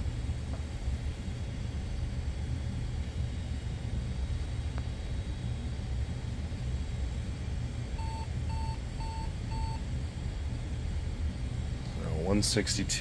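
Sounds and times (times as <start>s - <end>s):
computer humming: 0.0s - 13.0s.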